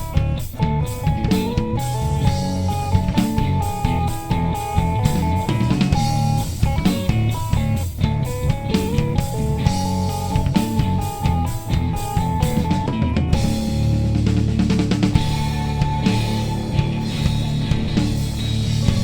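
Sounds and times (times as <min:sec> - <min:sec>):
electric guitar melodic line: 0:00.0 - 0:19.0
live rock band playing: 0:00.0 - 0:19.0.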